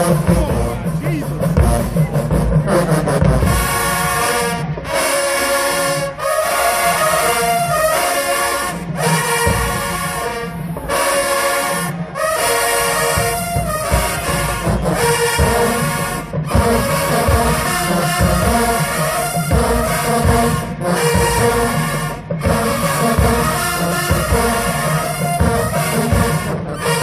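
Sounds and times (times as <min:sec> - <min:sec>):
brass band playing held chords: 0:00.0 - 0:27.0.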